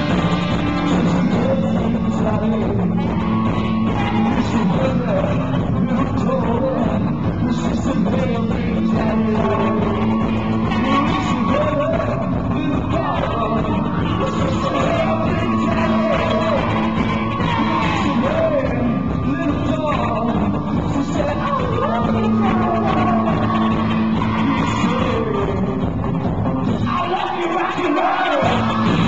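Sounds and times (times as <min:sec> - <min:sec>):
live rock band with singer: 0:00.0 - 0:29.0.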